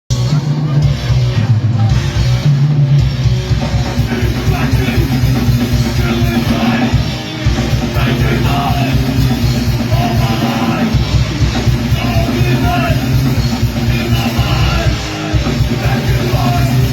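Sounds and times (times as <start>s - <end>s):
punk band playing live: 0.1s - 16.9s.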